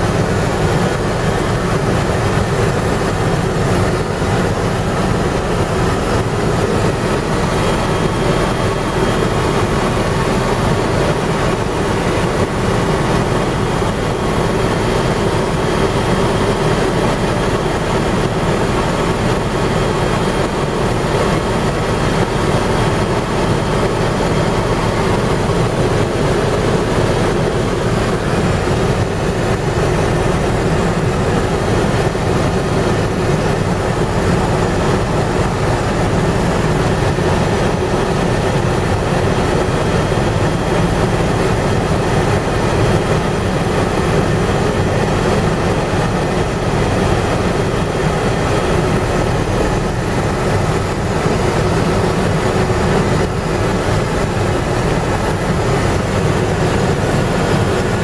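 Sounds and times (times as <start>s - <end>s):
helicopter cabin drone: 0.0s - 58.0s.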